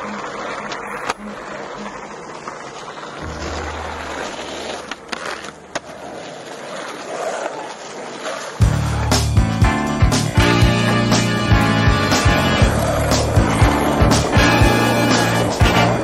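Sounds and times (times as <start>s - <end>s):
skateboard popping and landing: 0.0s - 9.4s, 12.0s - 16.0s
skateboard wheels on rough asphalt: 0.0s - 16.0s.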